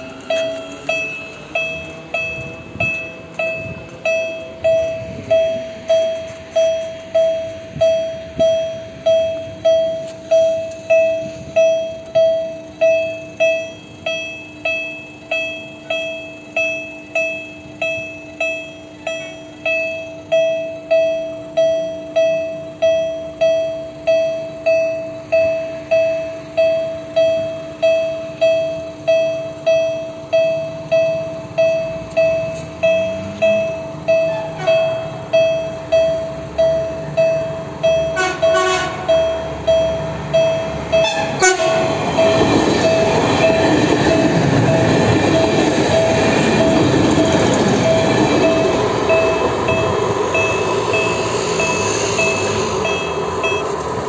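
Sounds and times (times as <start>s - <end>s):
level crossing warning bell: 0.0s - 54.0s.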